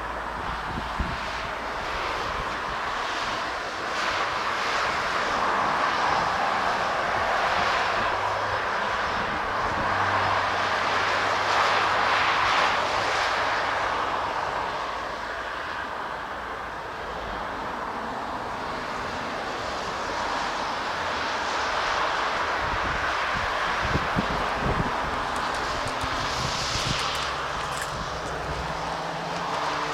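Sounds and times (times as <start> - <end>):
airliner engines rushing: 0.0 - 29.9.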